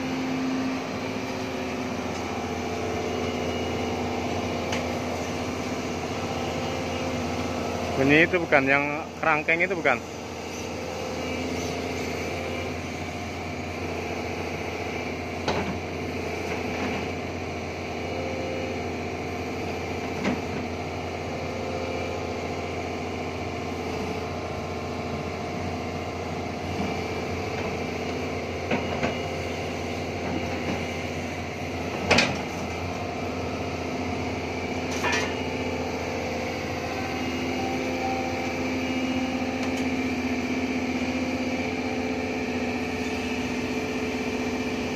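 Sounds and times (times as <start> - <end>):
excavator running: 0.0 - 44.9
hydraulics whining: 0.0 - 44.9.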